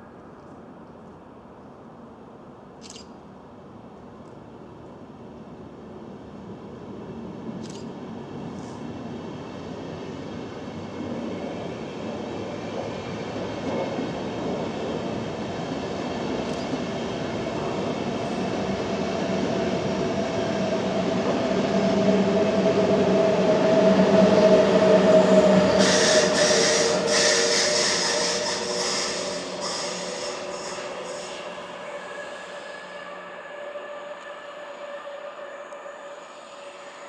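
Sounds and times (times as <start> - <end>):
train rumbling past: 5.3 - 37.0
train whine: 5.3 - 37.0.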